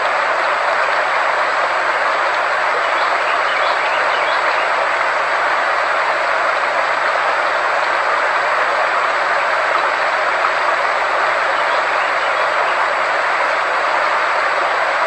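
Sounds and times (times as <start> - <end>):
steady synthesized noise hiss: 0.0 - 15.0.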